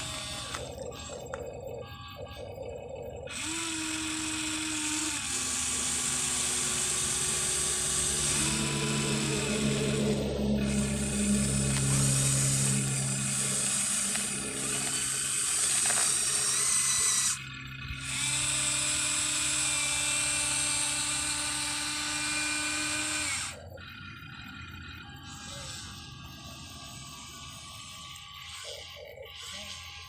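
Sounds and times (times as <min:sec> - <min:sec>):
small electric motors whining: 0:00.0 - 0:30.0.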